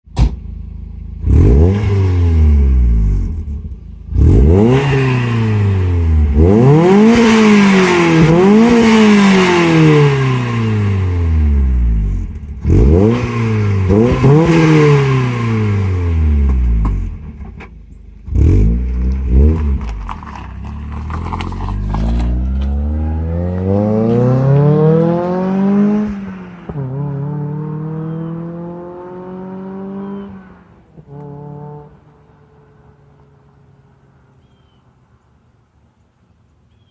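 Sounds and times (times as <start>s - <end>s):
car engine revving: 0.6s - 17.6s, 18.2s - 34.0s.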